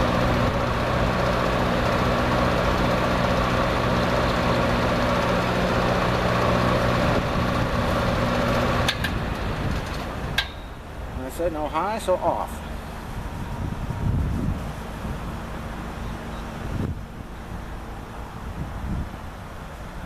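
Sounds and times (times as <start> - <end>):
box fan running: 0.0 - 20.0.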